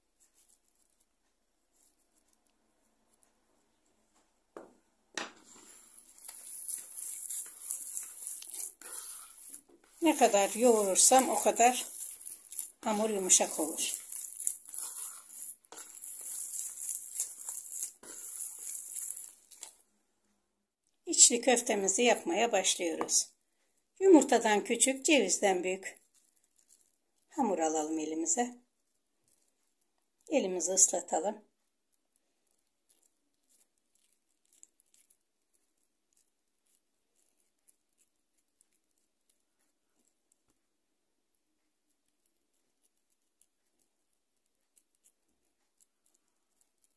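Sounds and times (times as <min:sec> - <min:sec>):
hands kneading crumbly dough: 0:00.0 - 0:19.9, 0:24.1 - 0:46.9.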